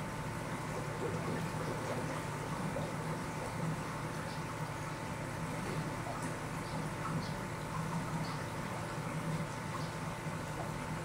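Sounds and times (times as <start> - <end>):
aquarium pump hum: 0.0 - 11.0.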